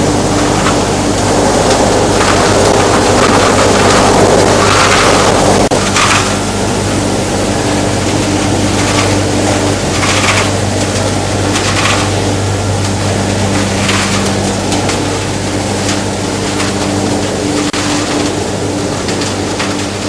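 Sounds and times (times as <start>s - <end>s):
electric motor hum: 0.0s - 20.0s
rushing water-like churn: 0.0s - 20.0s.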